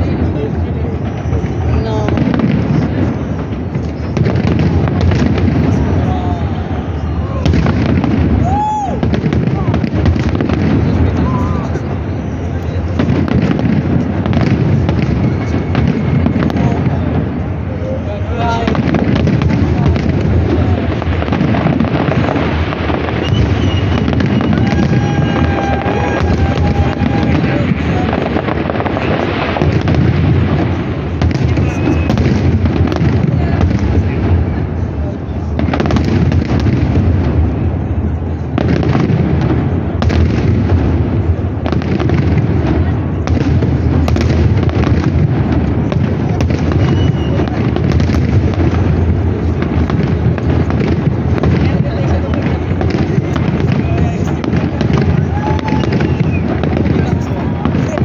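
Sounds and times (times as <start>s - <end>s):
fireworks barrage: 0.0s - 58.0s
fireworks crackling: 0.0s - 58.0s.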